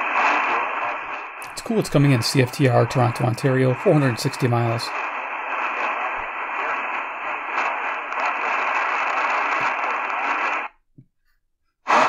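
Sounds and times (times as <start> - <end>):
muffled radio static hiss: 0.0 - 10.8.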